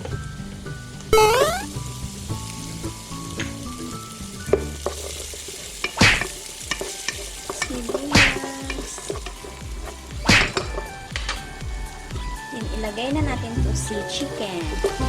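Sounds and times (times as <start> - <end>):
garlic sizzling in butter: 0.0 - 15.0
stirring strokes in a pan: 0.4 - 15.0.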